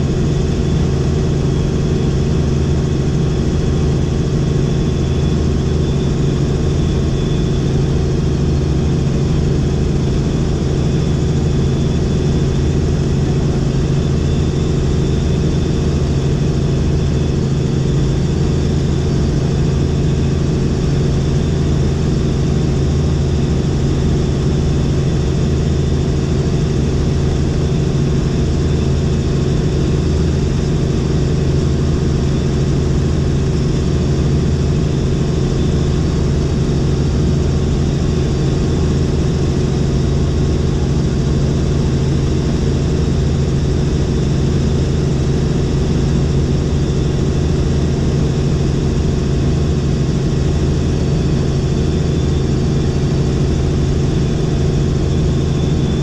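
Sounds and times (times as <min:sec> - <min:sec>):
helicopter engine and rotors droning: 0:00.0 - 0:56.0.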